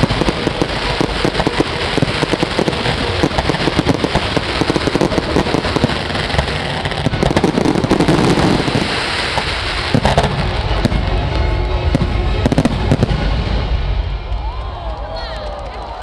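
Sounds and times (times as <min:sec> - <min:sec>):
firework booms: 0:00.0 - 0:14.4
fireworks crackling: 0:00.0 - 0:15.0.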